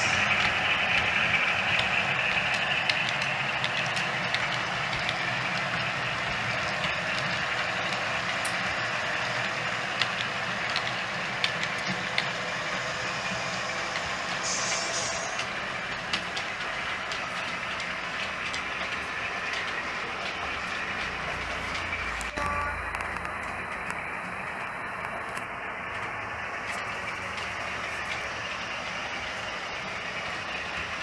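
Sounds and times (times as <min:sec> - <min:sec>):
model locomotive sound: 0:00.0 - 0:31.0
model train running noise: 0:00.0 - 0:31.0.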